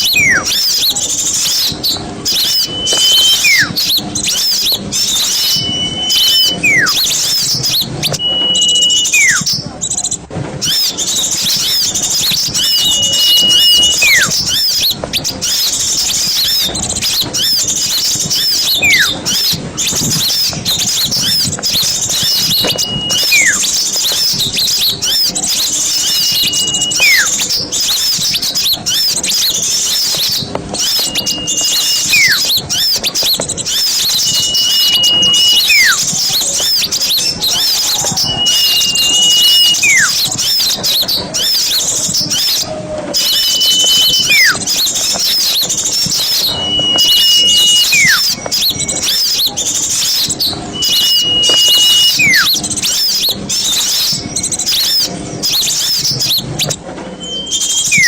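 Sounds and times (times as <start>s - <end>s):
bird whistle sliding downward: 0.0s - 9.6s, 10.6s - 58.0s
songbirds chirping and trilling: 0.0s - 58.0s.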